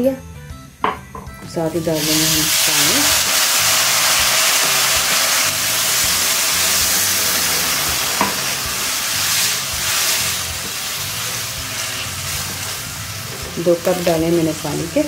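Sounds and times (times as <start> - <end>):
vermicelli sizzling in a wok: 0.6 - 15.0.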